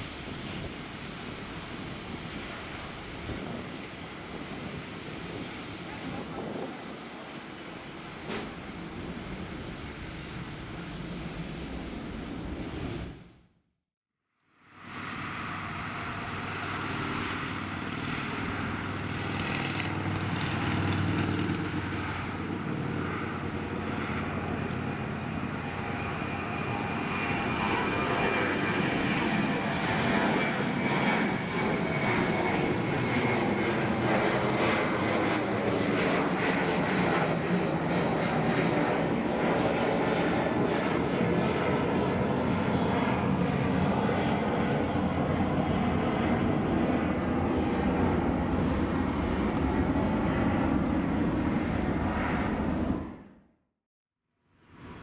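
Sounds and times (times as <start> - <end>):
jet engines roaring: 0.0 - 13.4, 14.6 - 53.4.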